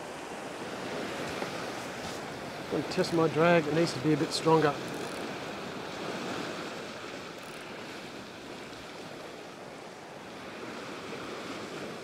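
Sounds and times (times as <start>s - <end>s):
ocean surf washing over rocks: 0.0s - 12.0s.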